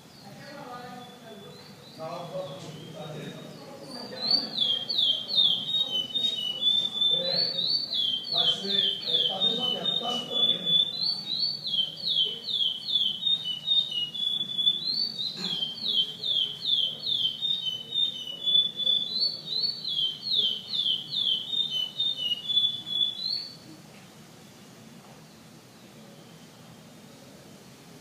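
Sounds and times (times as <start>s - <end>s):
finch singing whistled notes: 0.1s - 23.6s.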